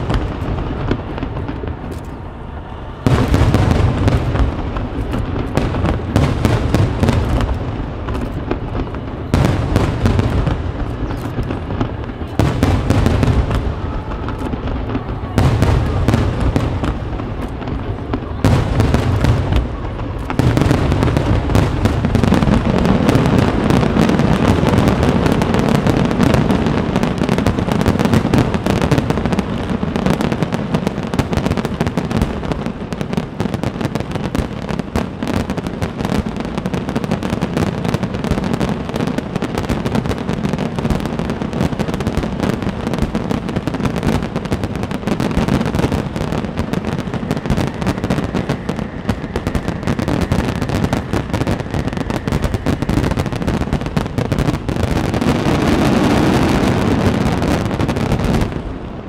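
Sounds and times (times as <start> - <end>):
fireworks barrage of bangs and crackling: 0.0 - 59.0
fireworks booms: 0.0 - 59.0.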